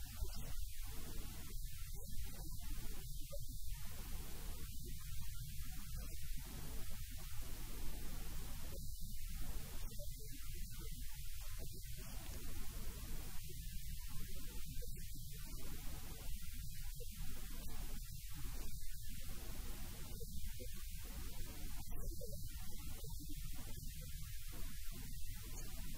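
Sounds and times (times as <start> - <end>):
faint hiss: 0.0 - 25.9
low electrical mains hum: 0.0 - 25.9.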